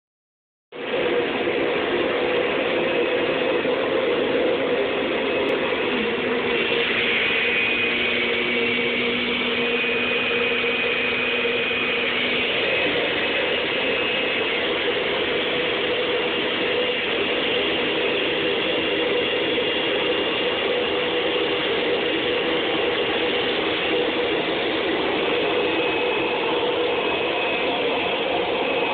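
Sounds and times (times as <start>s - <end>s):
vacuum cleaner running: 0.8s - 28.9s.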